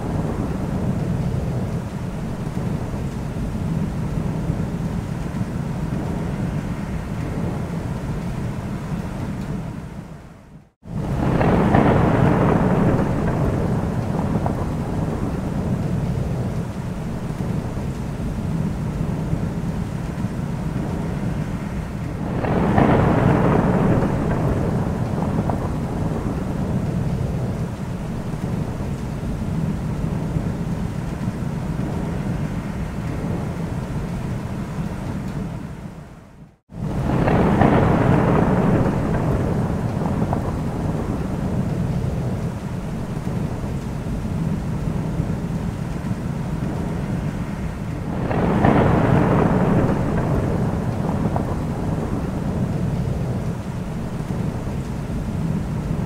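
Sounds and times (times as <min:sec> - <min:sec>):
steady rain: 0:00.0 - 0:56.0
thunder rolling: 0:00.0 - 0:56.0.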